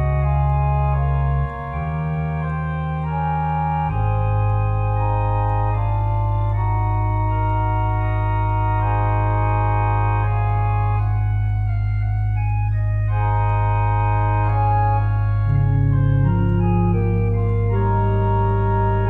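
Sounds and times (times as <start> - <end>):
organ playing sustained chords: 0.0 - 19.0.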